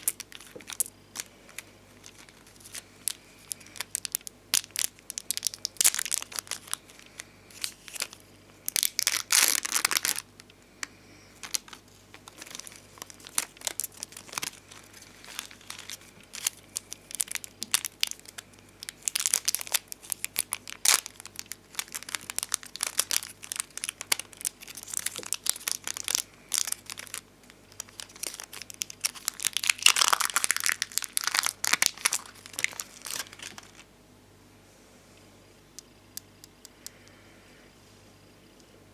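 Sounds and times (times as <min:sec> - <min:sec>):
plastic crinkling: 0:00.0 - 0:33.9.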